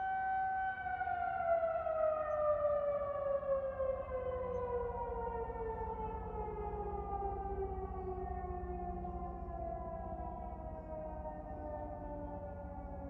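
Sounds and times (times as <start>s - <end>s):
siren winding down: 0.0s - 13.0s.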